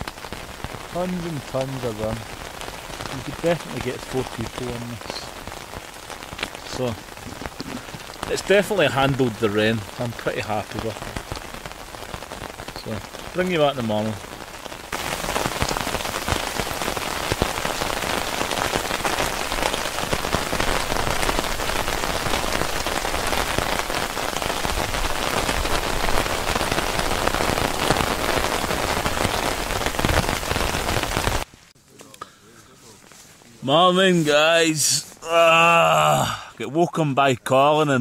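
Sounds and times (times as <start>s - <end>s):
heavy rain on tent fabric: 0.0s - 31.9s, 32.6s - 36.9s.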